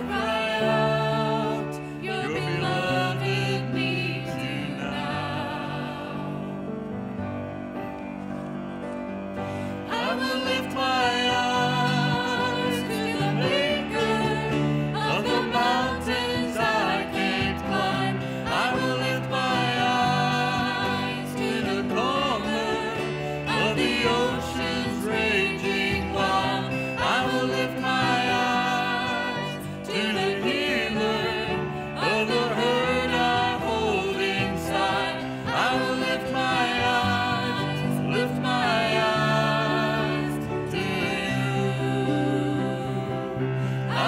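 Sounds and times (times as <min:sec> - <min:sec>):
group singing with instruments: 0:00.0 - 0:07.0, 0:09.4 - 0:44.0.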